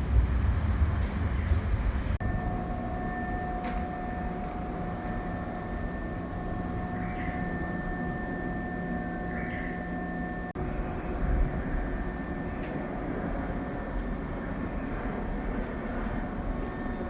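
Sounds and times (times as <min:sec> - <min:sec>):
electric train rumbling and whining: 0:00.0 - 0:17.0.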